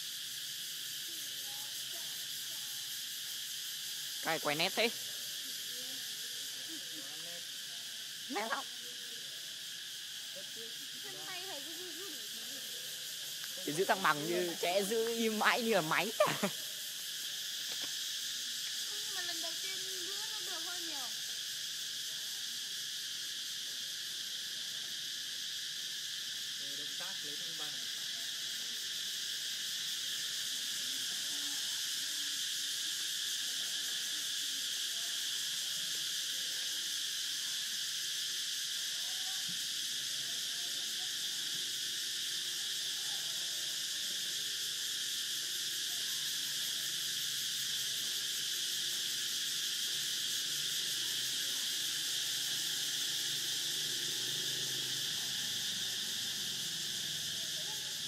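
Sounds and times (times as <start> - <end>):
steady high-pitched hiss: 0.0 - 58.0.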